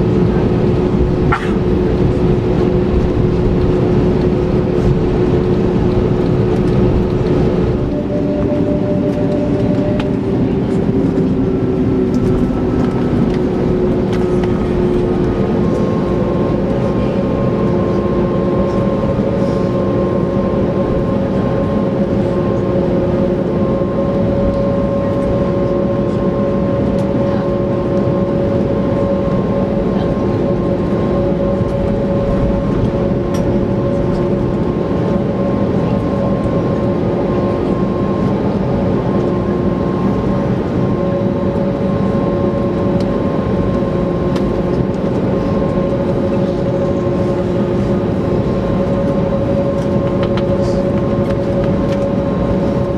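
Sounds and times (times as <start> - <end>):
airplane cabin engine roar: 0.0 - 52.9
steady humming tones: 0.0 - 52.9.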